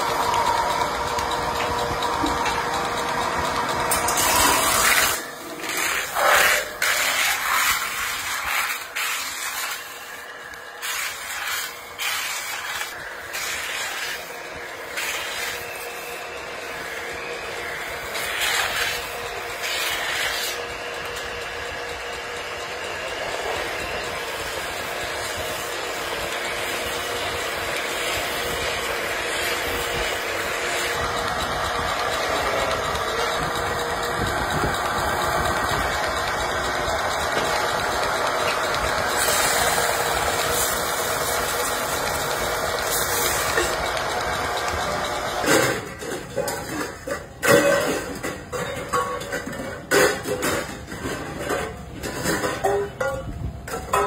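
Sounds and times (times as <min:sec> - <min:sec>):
lathe running: 0:00.0 - 0:54.0
tool scraping spinning metal pot: 0:00.0 - 0:54.0.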